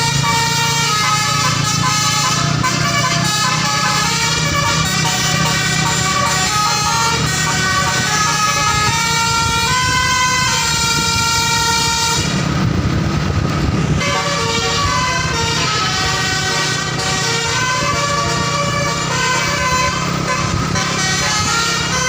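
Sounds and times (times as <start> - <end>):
bus musical horn melody: 0.0 - 22.0
low rumble: 1.2 - 20.8.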